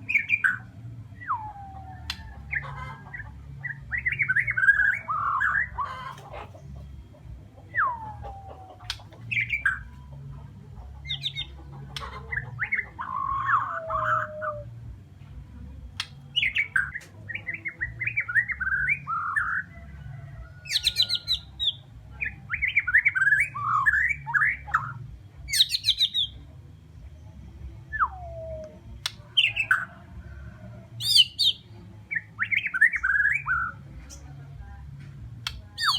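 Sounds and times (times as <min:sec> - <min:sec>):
bird singing varied song: 0:00.0 - 0:35.9.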